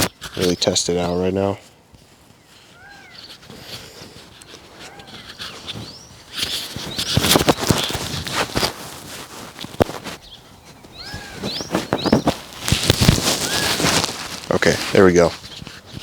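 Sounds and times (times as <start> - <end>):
birds calling: 0.0 - 16.0
rustling and scraping on microphone: 0.0 - 16.0.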